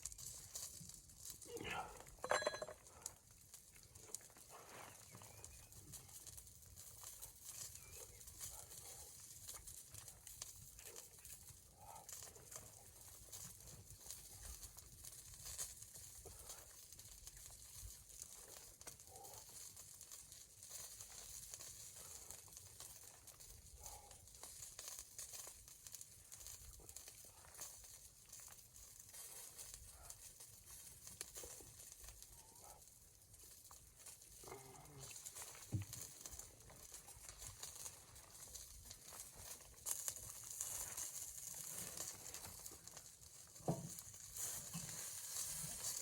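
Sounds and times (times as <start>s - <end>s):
quiet rustles: 0.0s - 46.0s.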